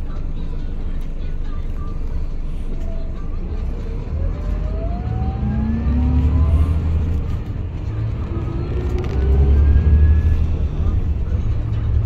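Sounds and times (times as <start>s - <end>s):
coach engine: 0.0s - 12.0s
road rumble: 0.0s - 12.0s.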